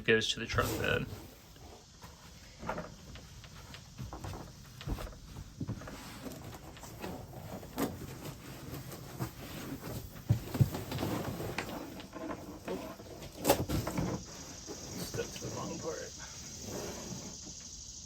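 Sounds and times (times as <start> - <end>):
rustling: 0.5 - 17.7.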